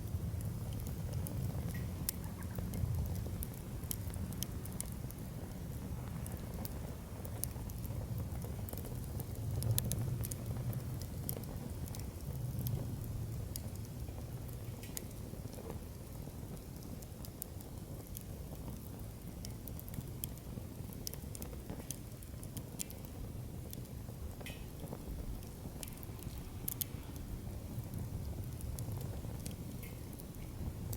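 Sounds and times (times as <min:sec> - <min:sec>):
campfire crackling and popping: 0:00.0 - 0:30.9
low rumble of flames: 0:00.0 - 0:30.9.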